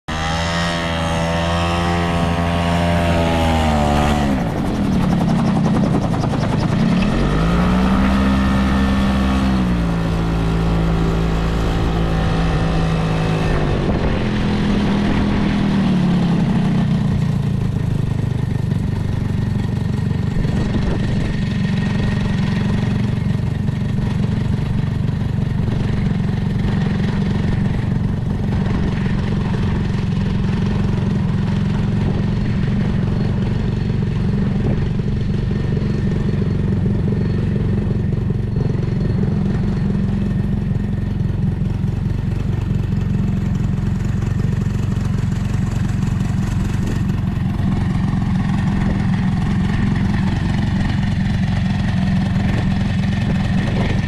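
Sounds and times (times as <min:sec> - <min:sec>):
gyrocopter engine and propeller: 0:00.0 - 0:54.0.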